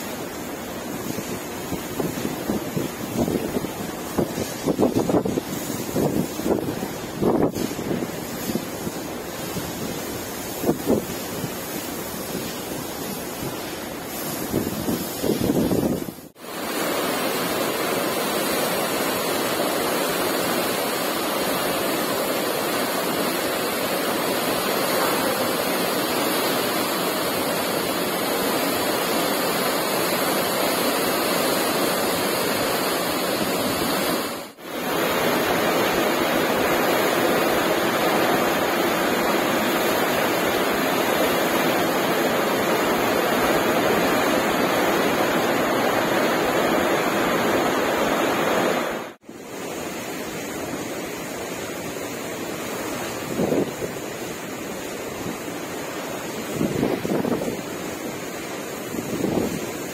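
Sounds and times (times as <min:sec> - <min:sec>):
churning white water rushing: 0:00.0 - 0:59.9.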